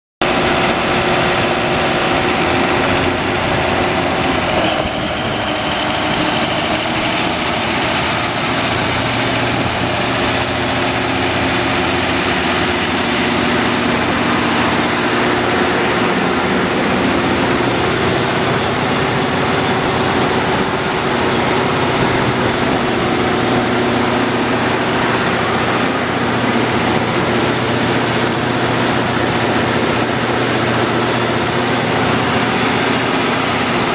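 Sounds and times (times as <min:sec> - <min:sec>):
diesel generator running: 0:00.2 - 0:33.9
high whine: 0:00.2 - 0:33.9.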